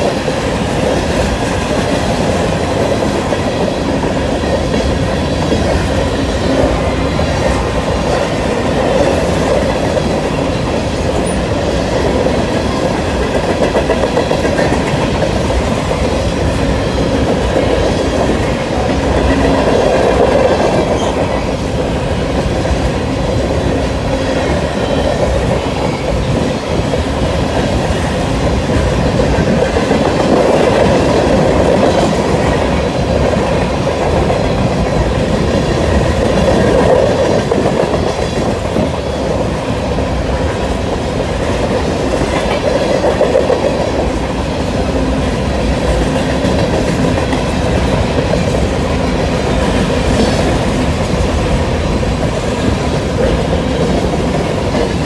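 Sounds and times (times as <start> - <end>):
steel wheels on rails: 0.0 - 55.0.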